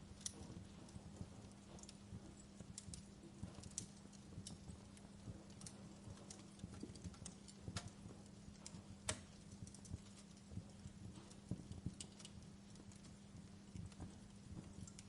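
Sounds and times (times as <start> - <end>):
low steady hum: 0.0 - 15.0
wood fire crackling: 0.0 - 15.0.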